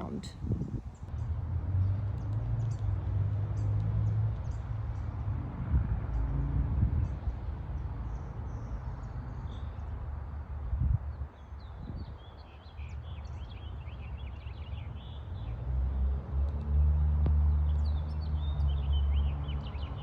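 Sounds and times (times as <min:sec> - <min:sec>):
distant traffic rumble: 0:00.0 - 0:11.5, 0:12.3 - 0:20.0.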